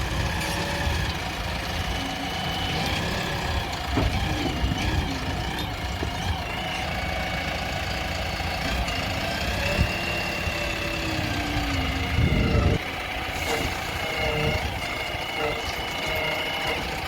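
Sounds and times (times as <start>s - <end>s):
heavy machinery engine running: 0.0s - 17.0s.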